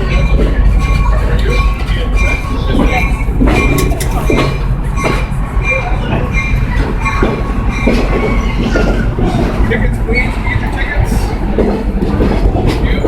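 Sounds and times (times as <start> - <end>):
high wheel squeals: 0.0 - 11.4
train cars rumbling: 0.0 - 13.0
wheels knocking on rails: 0.0 - 13.0.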